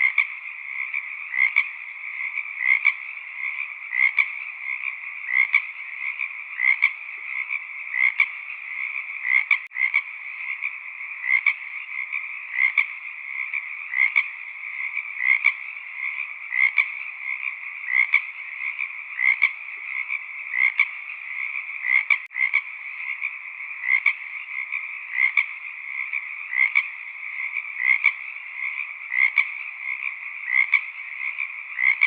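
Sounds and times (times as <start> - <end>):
frog chorus trilling: 0.0 - 32.0
loud frog call: 0.0 - 32.0.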